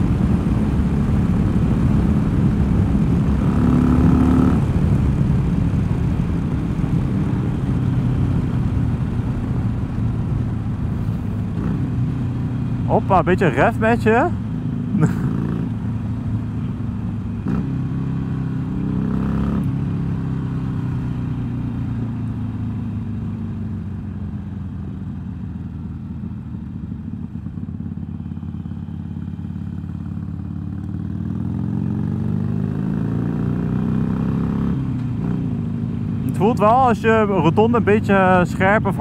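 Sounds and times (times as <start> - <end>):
motorcycle engine: 0.0 - 39.0.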